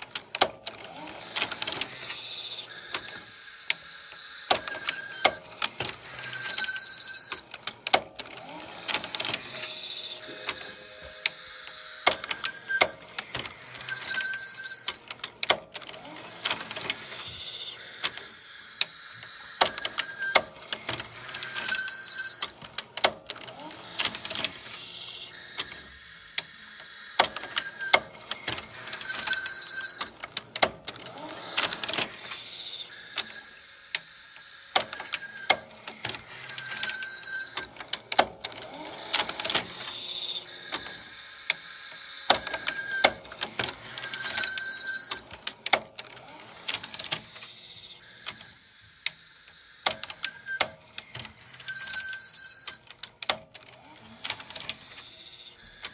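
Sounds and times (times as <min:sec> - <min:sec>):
tape mechanism clicking and squeaking: 0:00.0 - 0:55.9
short high-pitched squeals: 0:01.2 - 0:07.5, 0:08.2 - 0:15.1, 0:16.0 - 0:22.6, 0:23.7 - 0:30.2, 0:31.1 - 0:37.8, 0:38.7 - 0:45.3, 0:46.4 - 0:52.9.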